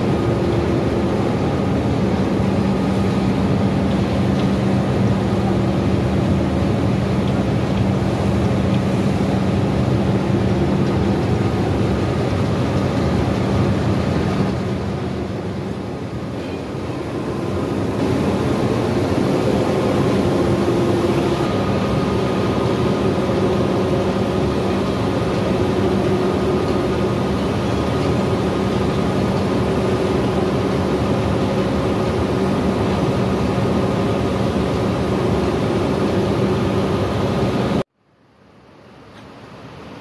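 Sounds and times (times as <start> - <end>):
factory machinery drone: 0.0 - 37.9.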